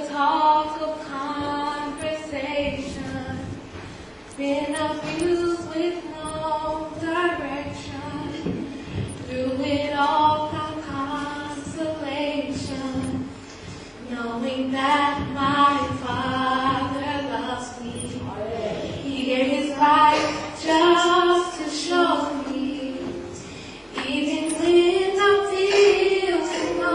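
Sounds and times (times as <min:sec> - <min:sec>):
women singing gospel together: 0:04.3 - 0:26.9.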